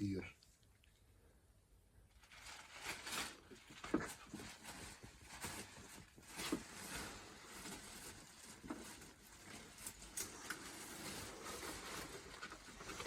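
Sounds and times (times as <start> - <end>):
clothes rustling: 2.2 - 13.0.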